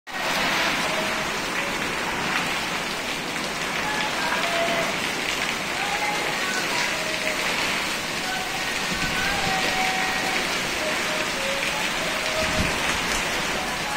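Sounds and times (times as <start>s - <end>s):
heavy rain falling: 0.1s - 13.9s
water splashing off roof onto leaves: 0.1s - 13.9s.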